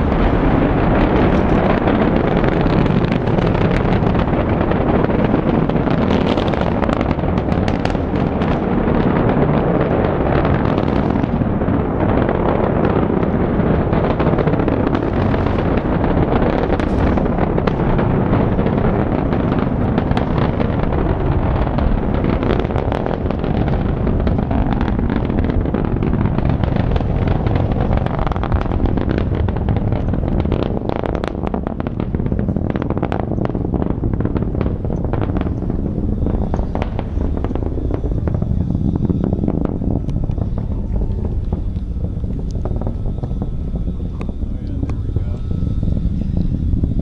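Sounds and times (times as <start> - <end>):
distant rocket engines rumbling: 0.0 - 47.0.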